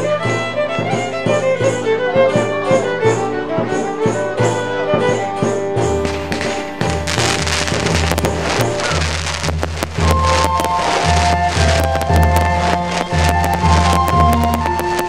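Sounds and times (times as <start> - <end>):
music with melody over steady beat: 0.0 - 15.0.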